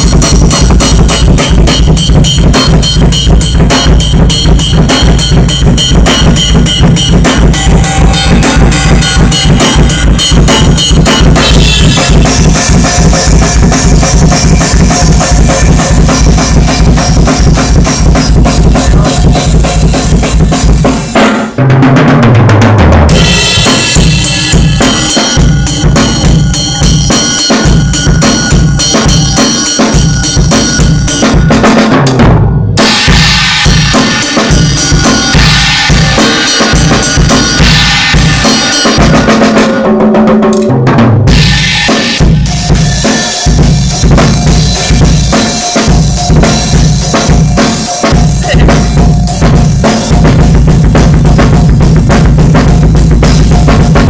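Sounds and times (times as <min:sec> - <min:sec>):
fast metal drumming: 0:00.0 - 0:54.0.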